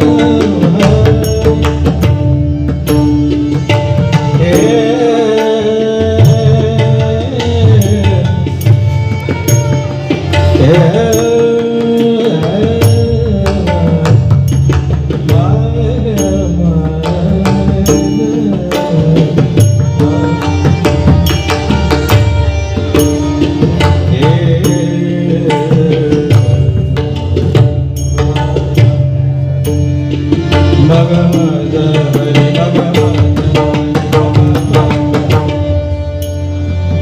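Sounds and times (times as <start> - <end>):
devotional music: 0.0 - 37.0
tabla rhythm: 0.0 - 37.0.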